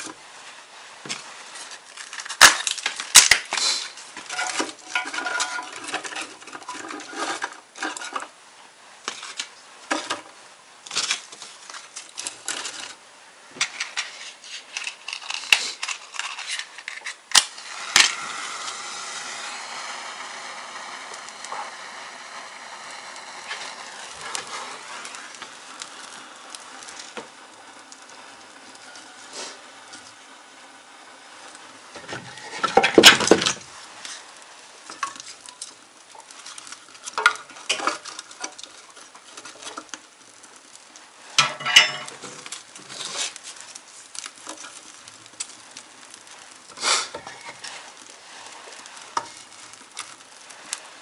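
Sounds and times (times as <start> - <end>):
fire hissing: 0.0 - 51.0
match strike: 1.0 - 8.3, 13.6 - 51.0.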